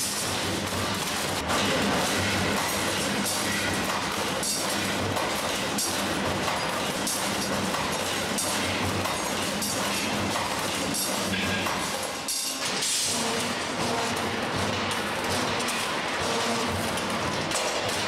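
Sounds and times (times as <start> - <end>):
bending machine motor hum: 0.0 - 18.0.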